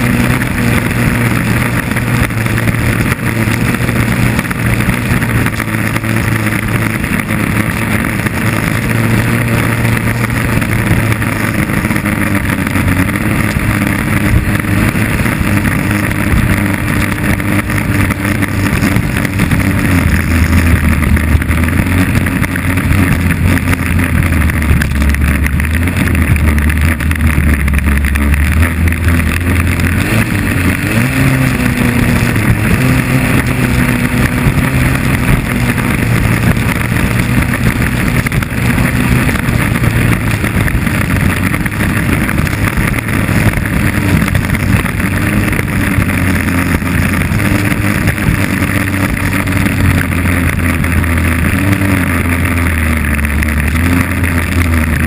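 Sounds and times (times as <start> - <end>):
boat engine running hard: 0.0 - 55.0
wind noise: 0.0 - 55.0.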